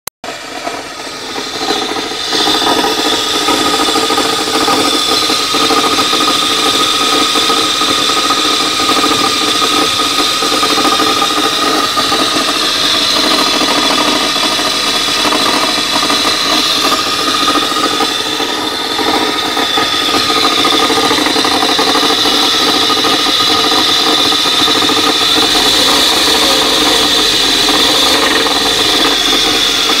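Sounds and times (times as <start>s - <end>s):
car engine idling: 0.3s - 30.0s
high whine: 0.3s - 30.0s
alternator bearing knocking: 0.4s - 30.0s.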